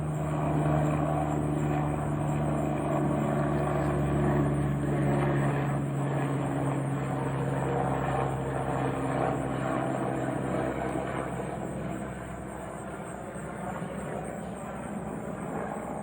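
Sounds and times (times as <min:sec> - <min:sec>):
helicopter humming: 0:00.0 - 0:16.0.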